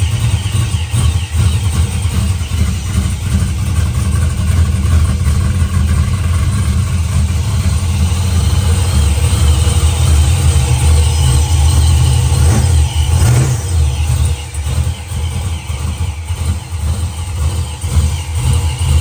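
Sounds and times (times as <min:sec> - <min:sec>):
car engine rumbling roughly: 0:00.0 - 0:19.0.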